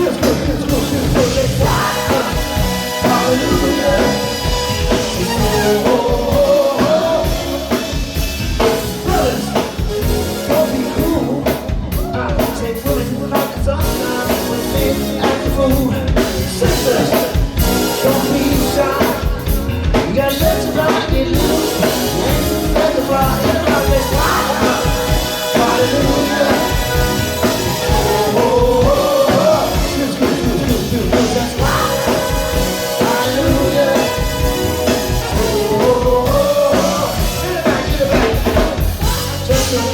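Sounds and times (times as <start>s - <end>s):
drum kit dance beat: 0.0s - 39.9s
funk band playing: 0.0s - 39.9s
person singing: 0.0s - 39.9s.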